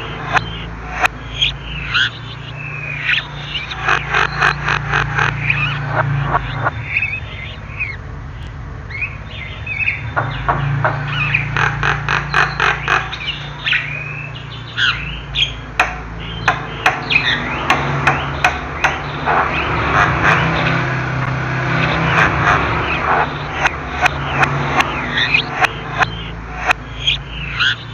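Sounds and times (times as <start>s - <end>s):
sharp clicking bird notes: 0.0s - 27.9s
steady low hum: 0.0s - 27.9s.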